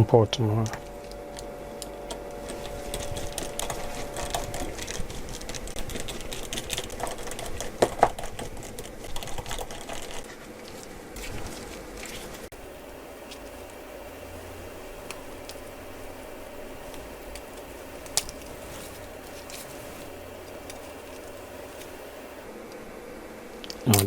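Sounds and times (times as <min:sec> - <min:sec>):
faint steady hum: 0:00.0 - 0:09.4, 0:10.3 - 0:24.0.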